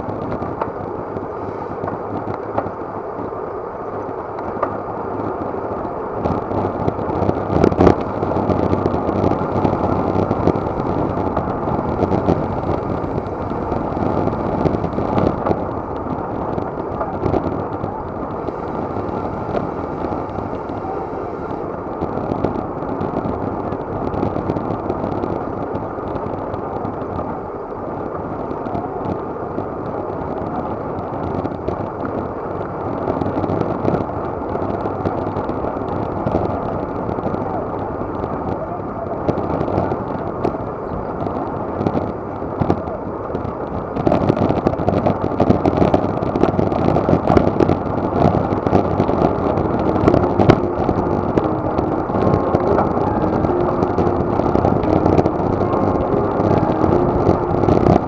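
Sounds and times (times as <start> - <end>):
bicycle road noise: 0.0 - 58.0
rushing wind: 0.0 - 58.0.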